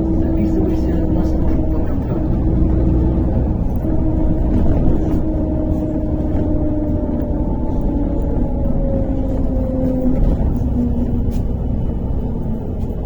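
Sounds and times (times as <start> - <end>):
bus engine and road drone: 0.0 - 13.0.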